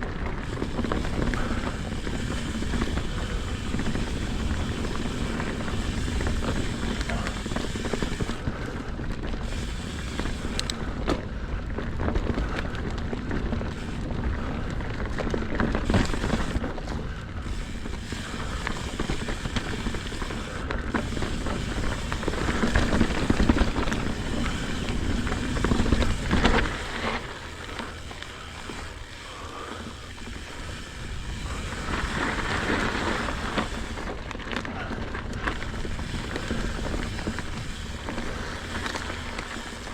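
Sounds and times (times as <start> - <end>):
bike clicks and rattles: 0.0 - 39.9
bike tyres rolling on hard ground: 0.0 - 39.9
wind rumbling on microphone: 0.0 - 39.9.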